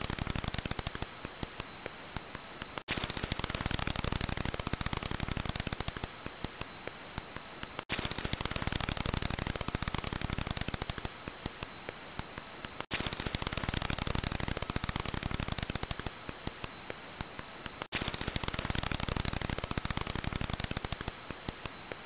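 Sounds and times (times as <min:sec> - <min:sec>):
bat calls clicking: 0:00.0 - 0:22.0.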